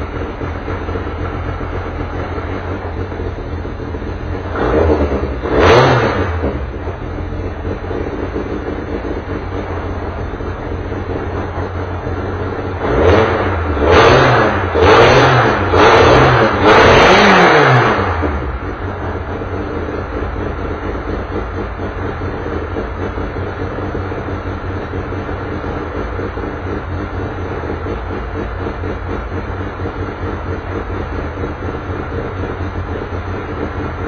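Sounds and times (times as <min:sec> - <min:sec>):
engine throttle blips: 0:00.0 - 0:34.0
race car engine idling: 0:00.0 - 0:34.0.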